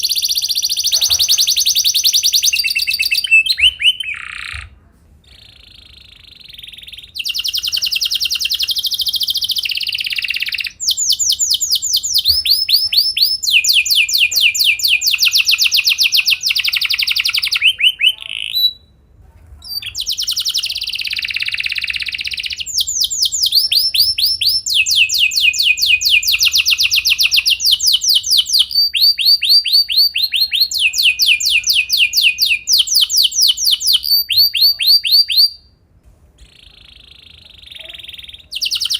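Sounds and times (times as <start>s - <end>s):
canary singing trills: 0.0s - 19.0s, 19.6s - 35.7s, 36.4s - 38.9s.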